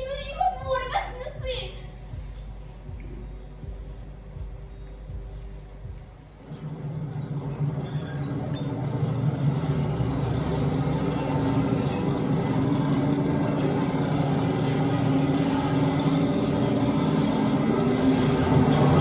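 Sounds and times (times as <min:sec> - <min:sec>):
heavy vehicle engine droning: 0:00.0 - 0:19.0.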